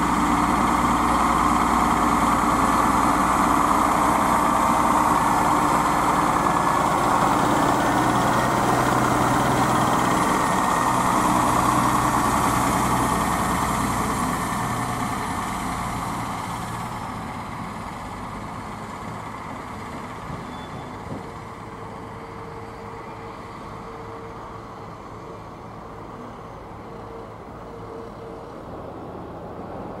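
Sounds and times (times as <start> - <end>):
railcar diesel engine humming: 0.0 - 30.0.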